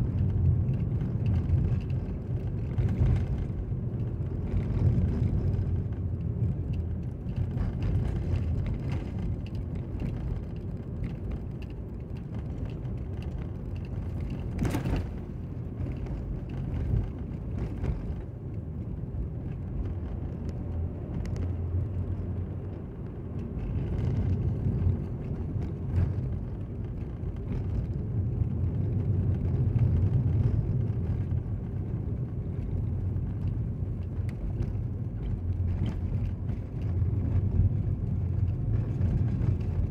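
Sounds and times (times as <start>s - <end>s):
car cabin road noise: 0.0s - 39.9s.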